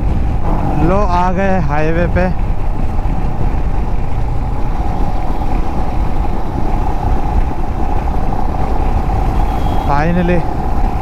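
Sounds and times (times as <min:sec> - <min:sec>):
motorcycle engine drone: 0:00.0 - 0:11.0
road noise: 0:00.0 - 0:11.0
wind: 0:00.0 - 0:11.0.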